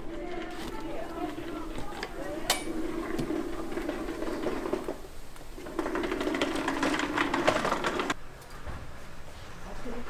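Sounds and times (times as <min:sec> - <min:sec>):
metal spatula scraping griddle: 0:00.1 - 0:08.2.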